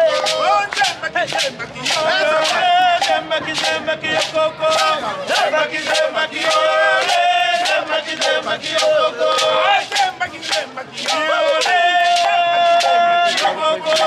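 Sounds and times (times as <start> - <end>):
men singing a chant: 0.0 - 14.0
steady drumbeat: 0.0 - 14.0.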